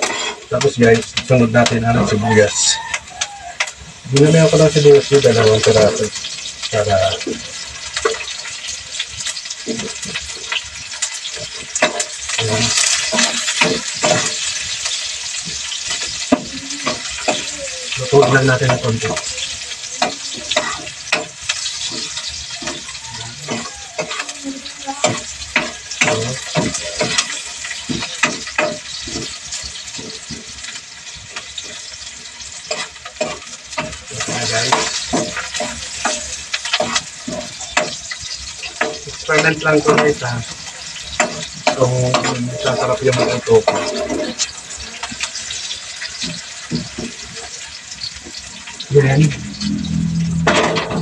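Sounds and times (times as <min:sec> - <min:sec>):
metal spoon scraping a pan: 0:00.0 - 0:00.6, 0:05.2 - 0:48.8
onions sizzling in hot oil: 0:00.0 - 0:51.0.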